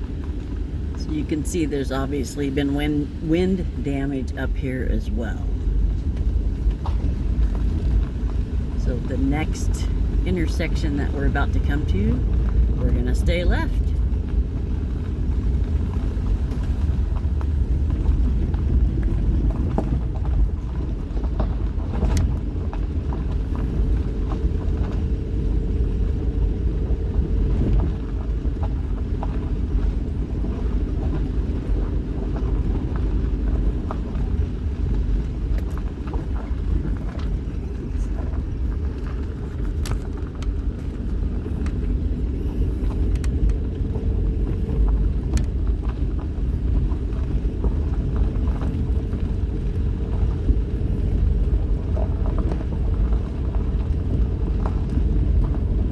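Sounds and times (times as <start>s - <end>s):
vehicle engine and road rumble: 0.0s - 55.9s.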